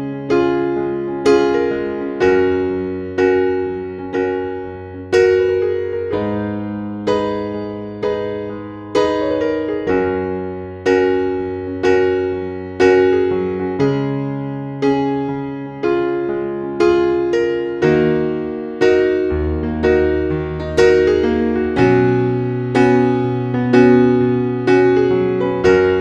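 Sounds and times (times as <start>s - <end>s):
slow soft piano music: 0.0s - 26.0s.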